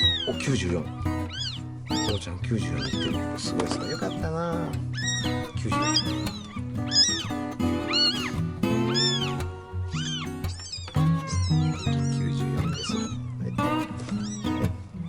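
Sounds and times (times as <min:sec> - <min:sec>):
kittens mewing: 0:00.0 - 0:15.0.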